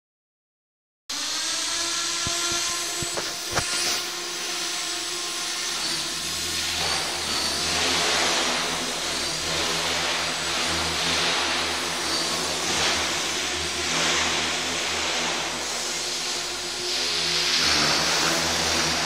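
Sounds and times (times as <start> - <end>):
model helicopter motor whine: 1.1 - 19.0
rushing rotor noise: 1.1 - 19.0.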